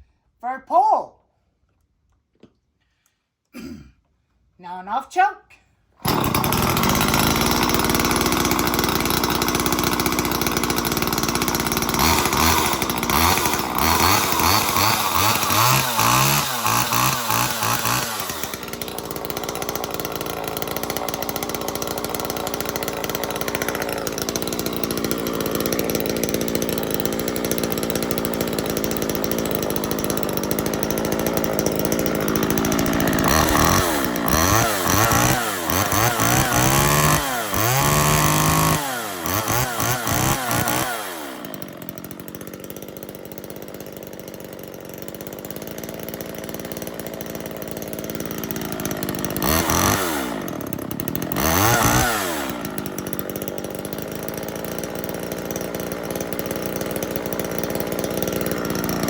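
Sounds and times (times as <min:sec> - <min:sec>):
chainsaw engine revving: 0:06.0 - 0:59.0.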